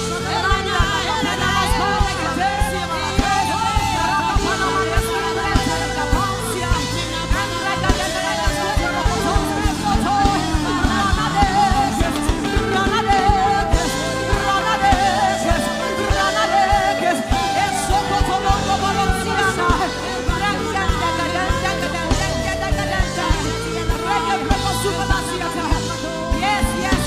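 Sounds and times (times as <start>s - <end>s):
band with steady drum beat: 0.0s - 27.0s
sustained keyboard chords: 0.0s - 27.0s
voices singing: 0.0s - 27.0s.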